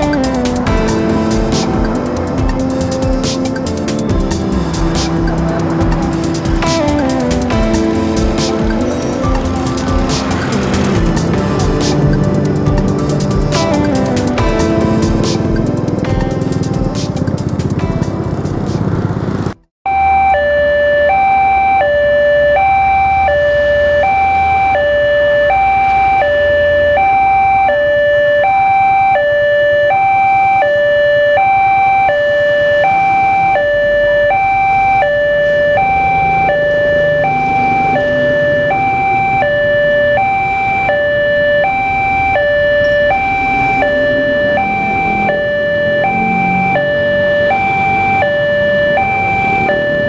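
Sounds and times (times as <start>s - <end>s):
level crossing two-tone alarm: 0.0s - 17.8s, 19.9s - 50.0s.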